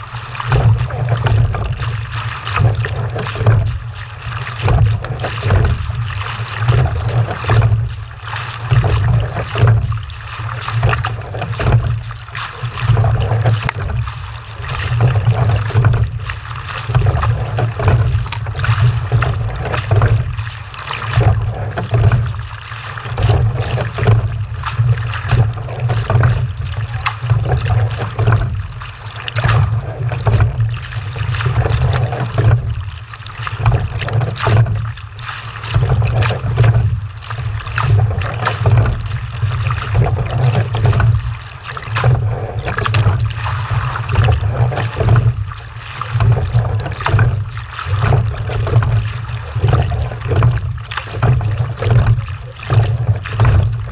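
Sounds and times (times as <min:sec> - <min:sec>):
rushing noise with low rumble: 0:00.0 - 0:53.9.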